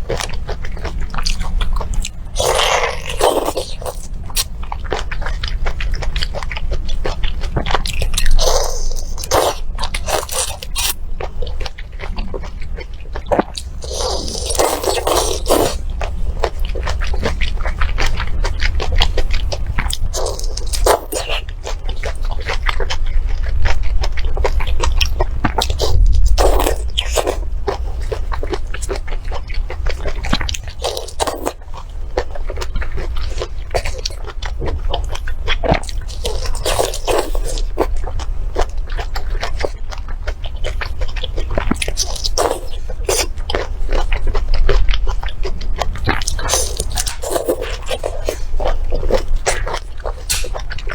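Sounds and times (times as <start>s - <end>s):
chewing and crunching: 0.0s - 50.9s.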